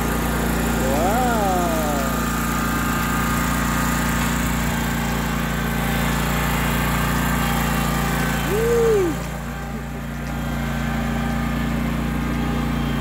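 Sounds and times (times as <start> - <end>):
mower engine running: 0.0 - 13.0.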